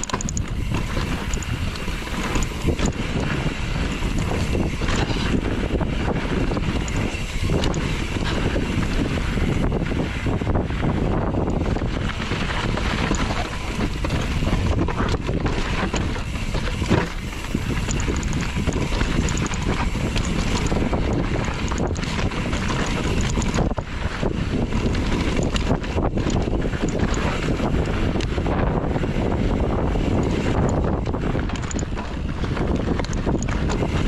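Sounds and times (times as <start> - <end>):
bike knocks and rattles: 0.0 - 34.0
wind buffeting microphone: 0.0 - 34.0.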